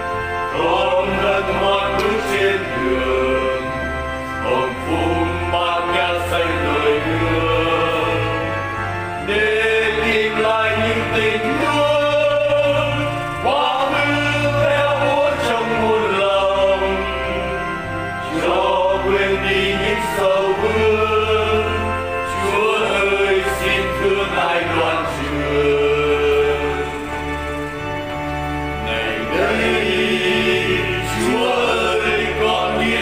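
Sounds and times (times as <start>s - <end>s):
person singing a hymn: 0.0s - 33.0s
sustained bass notes: 0.0s - 33.0s.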